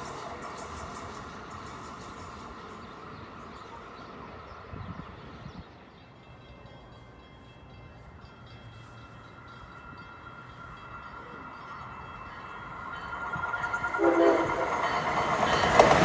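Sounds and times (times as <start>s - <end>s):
distant train rumble: 0.0s - 16.0s.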